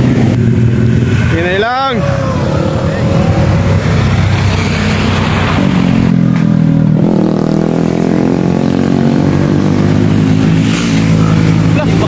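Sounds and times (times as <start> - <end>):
motorcycle engine running: 0.0 - 12.0
motorcycle passing: 0.0 - 12.0.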